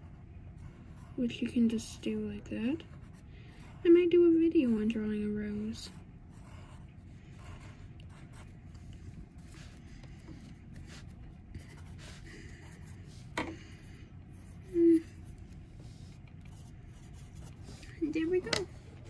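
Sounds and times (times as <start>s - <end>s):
pencil scratching on paper: 0.0s - 18.2s.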